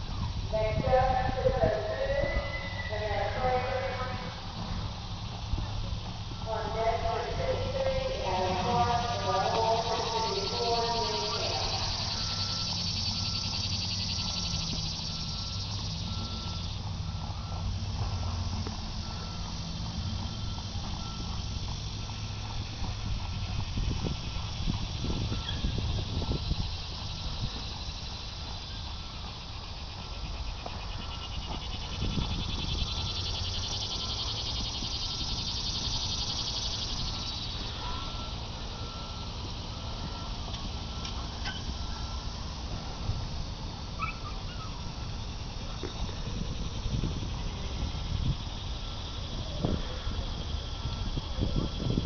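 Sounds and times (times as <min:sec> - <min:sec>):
low rumble and hiss: 0:00.0 - 0:52.0.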